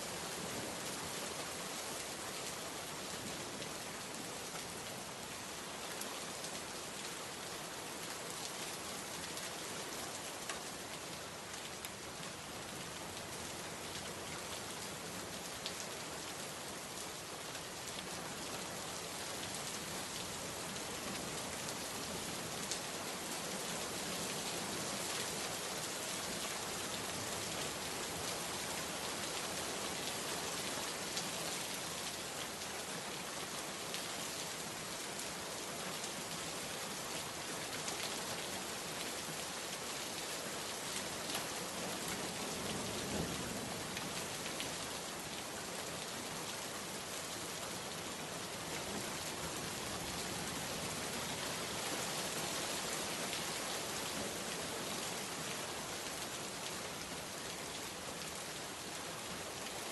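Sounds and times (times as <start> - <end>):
heavy rain falling: 0.1 - 59.9.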